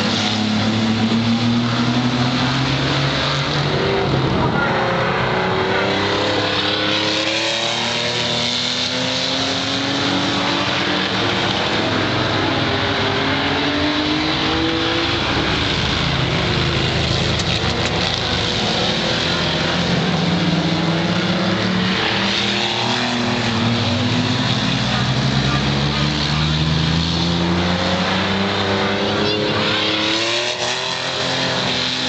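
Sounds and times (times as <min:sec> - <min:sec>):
race car engines accelerating: 0:00.0 - 0:32.0.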